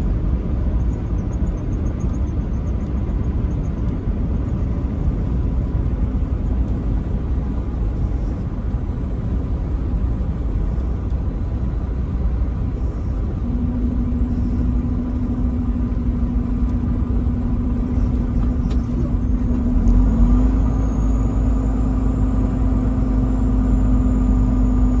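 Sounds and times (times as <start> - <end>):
engine drone: 0.0 - 25.0
truck road and engine rumble: 0.0 - 25.0.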